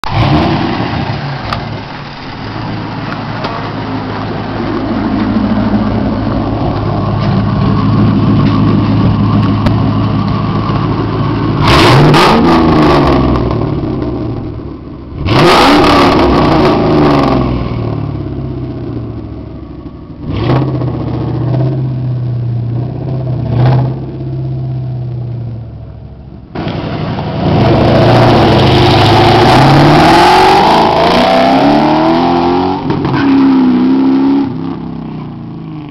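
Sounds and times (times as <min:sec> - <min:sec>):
loud car engine revving: 0:00.0 - 0:19.2, 0:20.2 - 0:25.0, 0:26.6 - 0:35.9.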